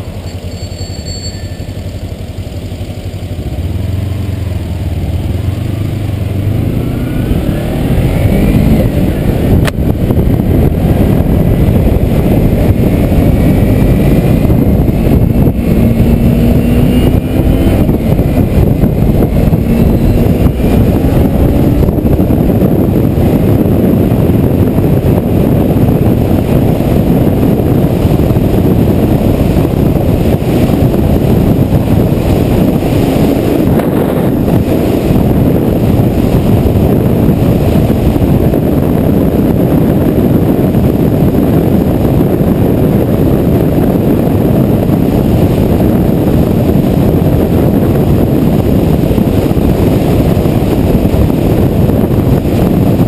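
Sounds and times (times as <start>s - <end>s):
motorcycle engine cruising: 0.0s - 53.0s
wind rush on microphone: 0.0s - 53.0s.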